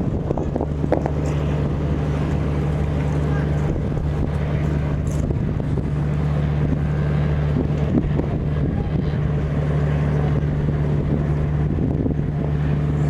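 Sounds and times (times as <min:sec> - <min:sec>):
boat engine droning: 0:00.0 - 0:13.0
wind on microphone: 0:00.0 - 0:13.0.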